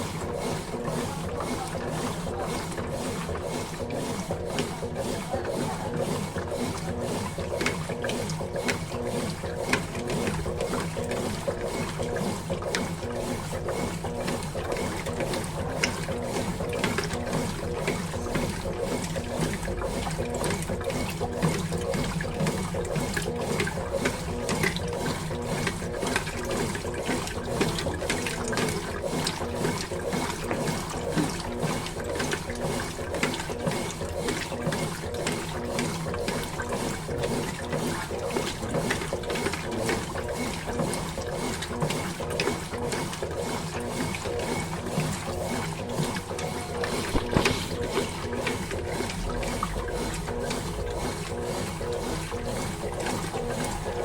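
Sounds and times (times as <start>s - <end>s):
washing machine churning: 0.0s - 54.0s
water sloshing in washing machine drum: 0.0s - 54.0s.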